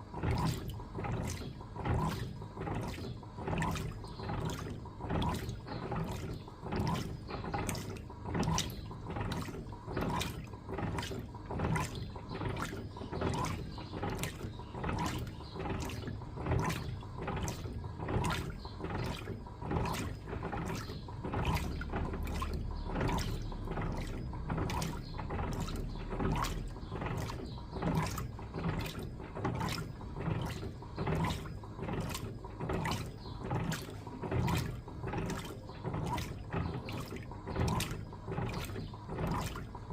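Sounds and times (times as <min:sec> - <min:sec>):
low motor hum: 0:00.0 - 0:39.9
washing machine agitating laundry: 0:00.0 - 0:39.9.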